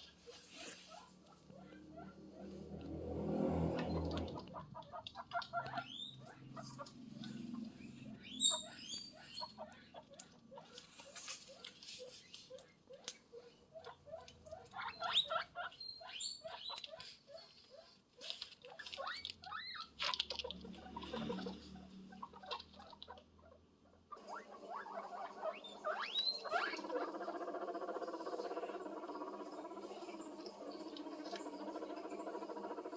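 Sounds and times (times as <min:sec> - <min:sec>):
guinea pig squeaking: 0:00.0 - 0:02.5, 0:03.8 - 0:32.9.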